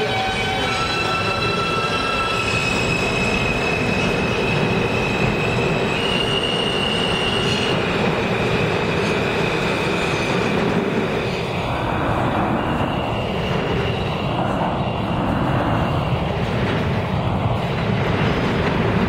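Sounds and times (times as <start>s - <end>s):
high whine of train: 0.0s - 19.0s
subway train rumbling: 0.0s - 19.0s.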